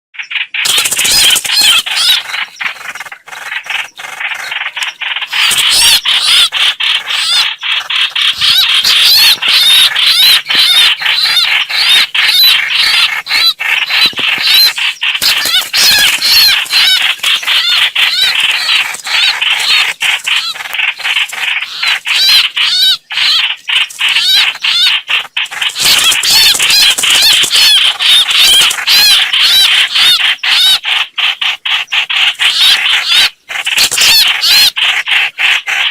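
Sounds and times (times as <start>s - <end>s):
bird chattering call: 0.2s - 35.9s.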